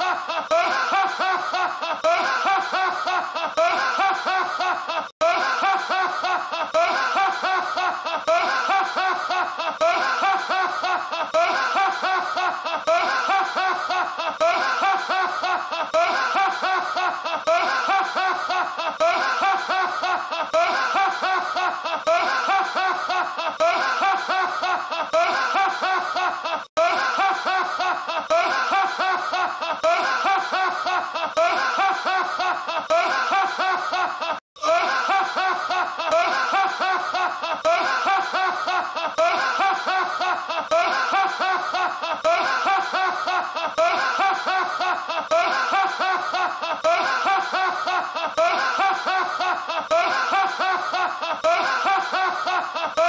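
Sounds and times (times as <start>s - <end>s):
man laughing loudly: 0.0s - 53.0s.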